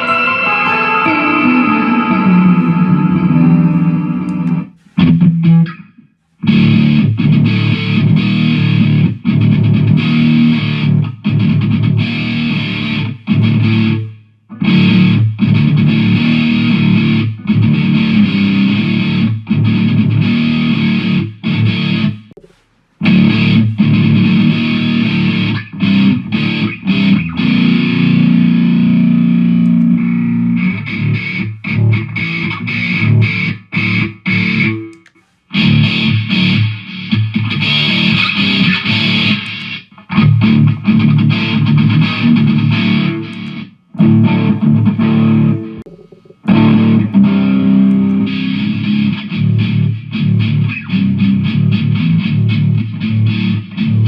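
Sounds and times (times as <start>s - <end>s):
distorted electric guitar riffing: 0.0s - 5.7s, 6.5s - 14.0s, 14.6s - 54.0s.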